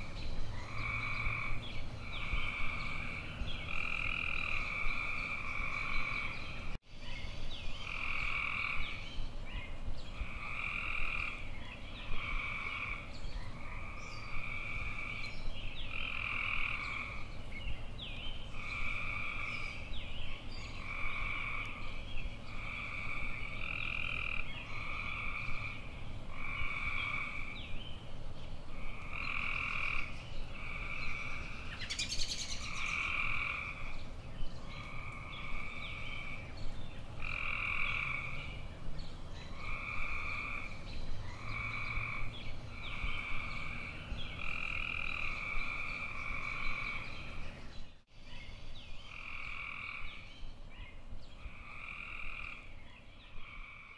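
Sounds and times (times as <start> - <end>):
tree frogs calling: 0.0 - 28.0, 28.6 - 53.9.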